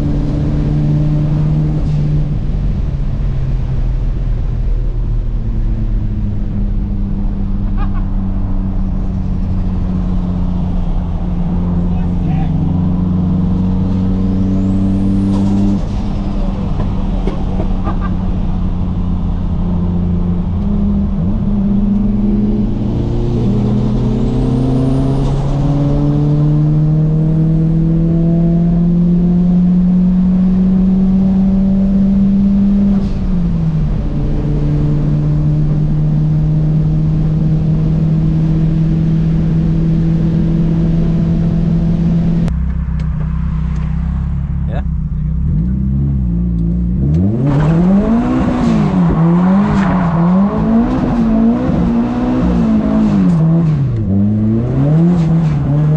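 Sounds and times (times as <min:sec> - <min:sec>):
car engine drone from cabin: 0:00.0 - 0:55.9.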